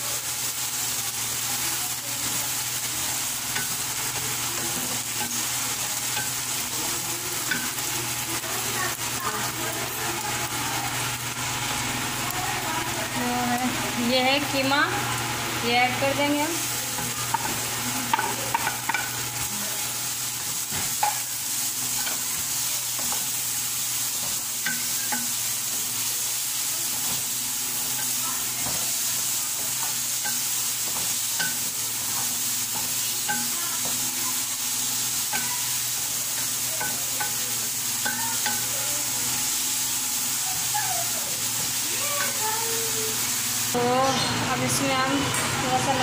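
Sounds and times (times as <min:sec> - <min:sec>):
meat sizzling in oil: 0:00.0 - 0:46.0.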